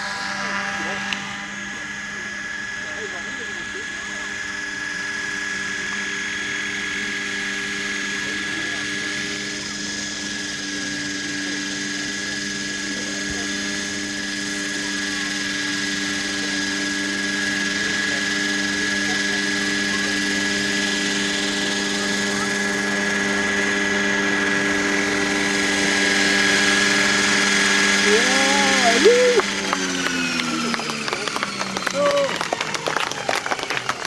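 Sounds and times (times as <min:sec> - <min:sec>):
model helicopter rotor whine: 0:00.0 - 0:34.0.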